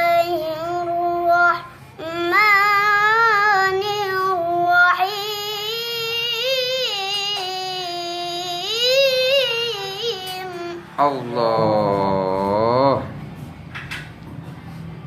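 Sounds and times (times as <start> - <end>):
child chanting recitation: 0.0 - 13.0.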